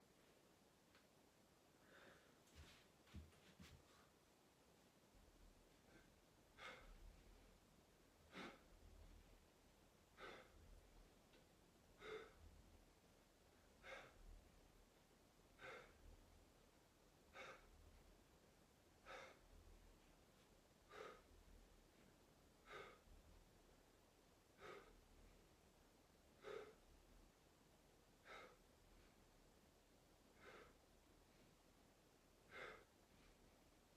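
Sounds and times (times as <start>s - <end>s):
faint room hiss: 0.0s - 33.9s.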